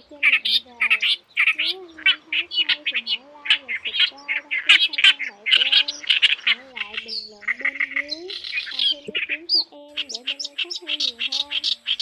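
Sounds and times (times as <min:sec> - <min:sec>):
reed warbler chattering song: 0:00.0 - 0:12.0.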